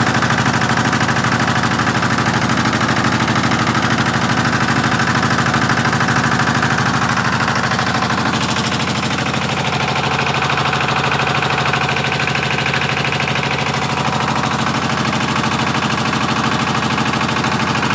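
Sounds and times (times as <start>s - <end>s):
single-cylinder engine running: 0.0s - 17.9s.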